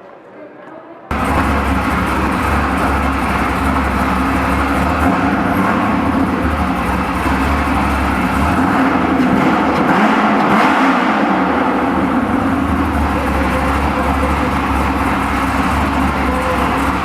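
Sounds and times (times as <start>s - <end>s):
loud car engine rumbling: 1.1s - 17.0s.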